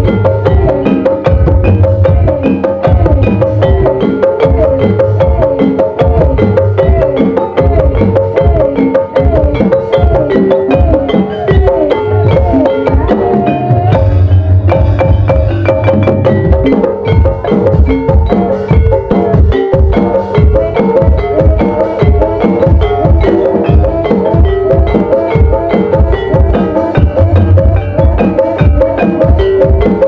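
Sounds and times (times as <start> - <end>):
drum rhythm with pitch-bending strokes: 0.0 - 30.0
tuned percussion melody: 0.0 - 30.0.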